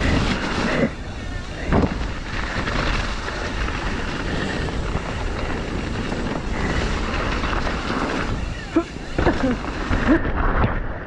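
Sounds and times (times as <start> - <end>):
tyres rolling on dirt: 0.0 - 10.9
wind over microphone: 0.0 - 11.0.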